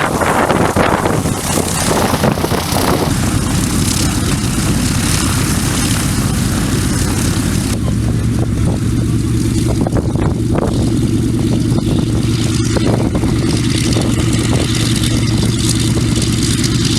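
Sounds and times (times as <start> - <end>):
radial aircraft engine running: 0.0 - 16.9.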